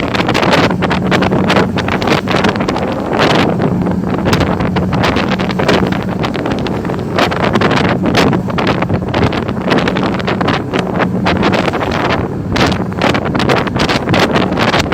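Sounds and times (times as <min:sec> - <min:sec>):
ship engine hum: 0:00.0 - 0:14.9
wind buffeting microphone: 0:00.0 - 0:14.9.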